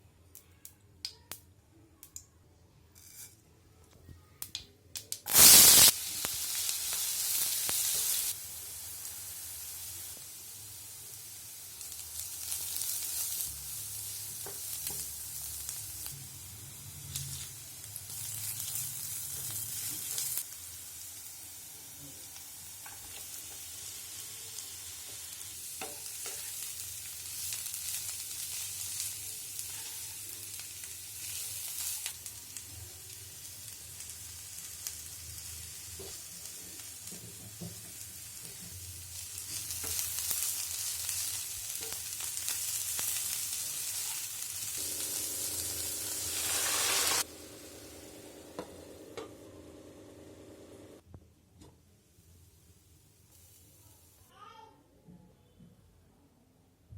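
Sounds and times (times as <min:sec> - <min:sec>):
cabbage sizzling in a pan: 0:05.2 - 0:51.0, 0:52.2 - 0:54.3.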